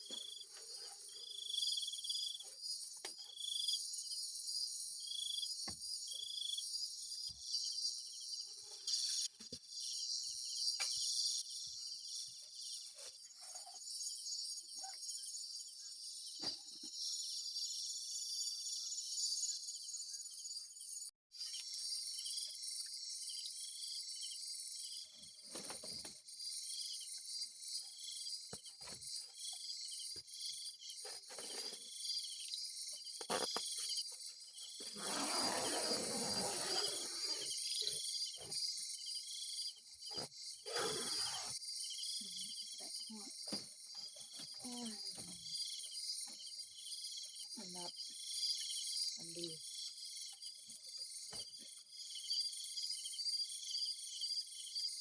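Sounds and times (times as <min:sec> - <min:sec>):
night insects chirping: 0:00.0 - 0:55.0.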